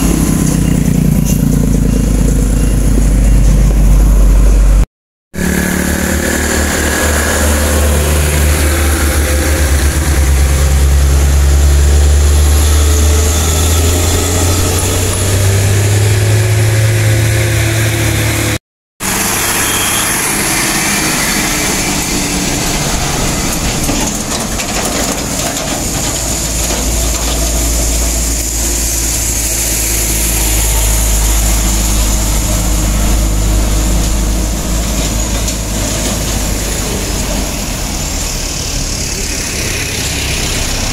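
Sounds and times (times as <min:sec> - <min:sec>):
truck diesel engine climbing: 0:00.0 - 0:40.9.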